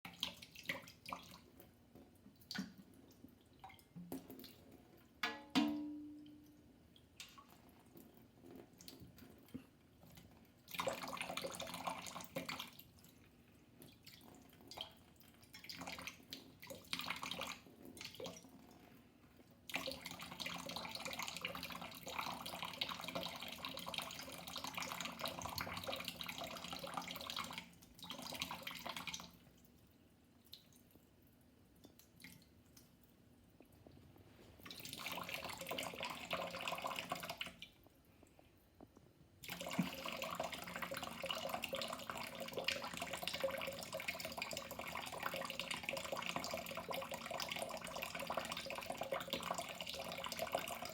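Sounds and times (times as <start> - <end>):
water dripping into a sink: 0.1 - 34.0, 34.6 - 50.9.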